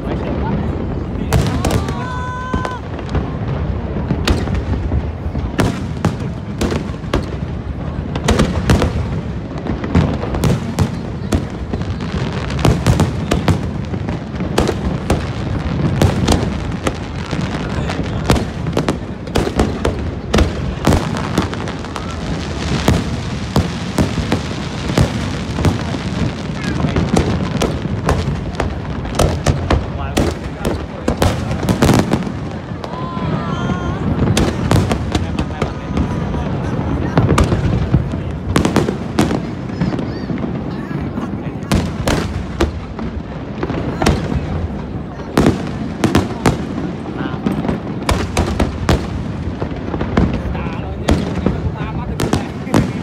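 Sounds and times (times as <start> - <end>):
fireworks bangs and crackles: 0.0 - 53.0
low firework booms: 0.0 - 53.0.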